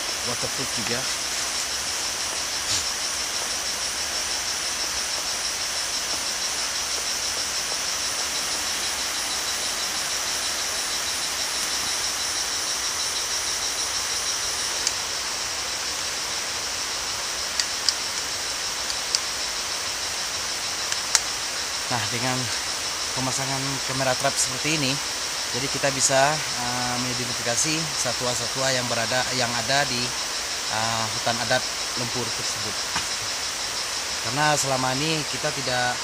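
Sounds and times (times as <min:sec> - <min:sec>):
constant hiss: 0:00.0 - 0:36.0
insect chorus drone: 0:00.0 - 0:36.0.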